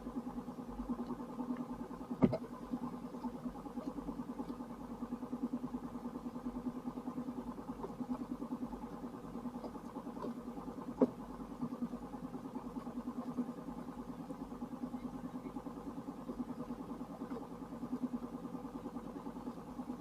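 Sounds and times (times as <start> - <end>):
muffled small engine idling: 0.0 - 20.0.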